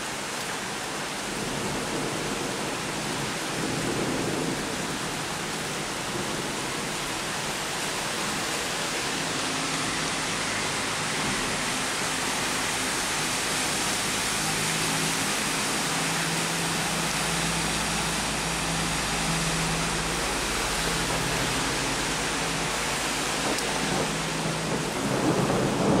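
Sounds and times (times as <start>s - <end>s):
heavy rain on flooded street: 0.0s - 26.0s.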